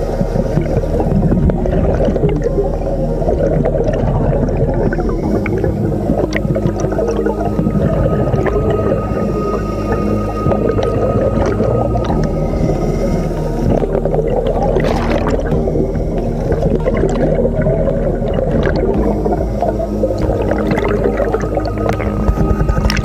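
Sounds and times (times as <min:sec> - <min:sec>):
steady low hum: 0:00.0 - 0:23.0
underwater bubbling and gurgling: 0:00.0 - 0:23.0.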